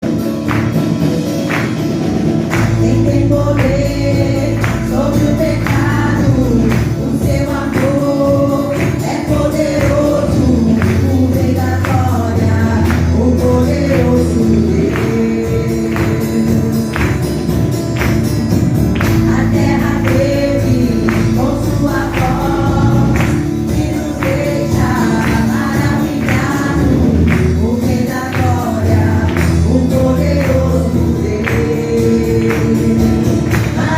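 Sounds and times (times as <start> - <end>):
band with bass and beat: 0.0 - 33.9
voices singing gospel song: 1.4 - 33.9.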